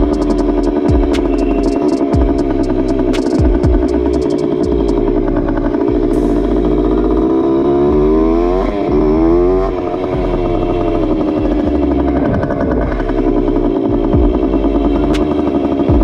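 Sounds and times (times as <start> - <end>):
two-stroke motorbike engine: 0.0 - 16.0.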